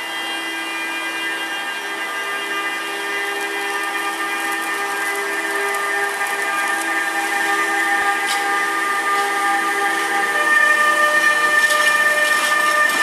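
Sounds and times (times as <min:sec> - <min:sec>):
electric locomotive whine: 0:00.0 - 0:13.0.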